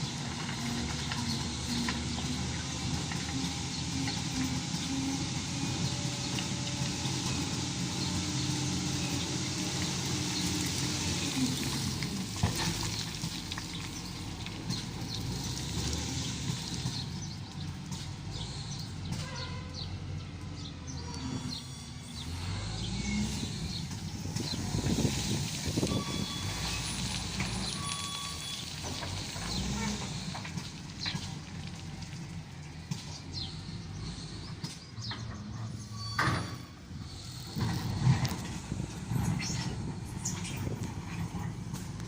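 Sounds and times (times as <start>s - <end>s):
wheel loader diesel engine: 0.0s - 42.0s.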